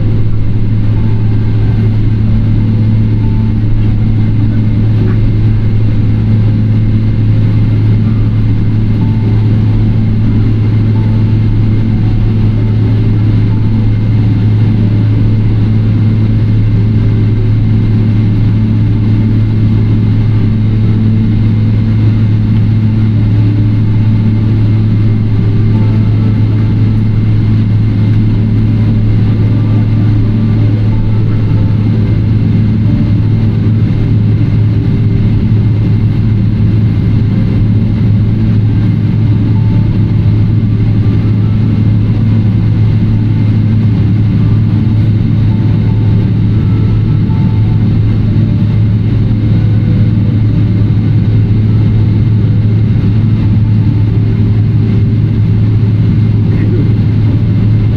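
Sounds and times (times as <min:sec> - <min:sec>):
cabin air noise: 0:00.0 - 0:57.9
jet engines idling: 0:00.0 - 0:57.9.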